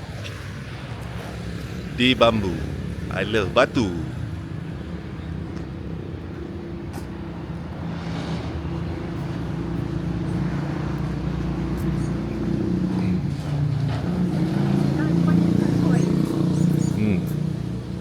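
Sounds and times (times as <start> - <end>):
outdoor traffic noise: 0.0 - 18.0.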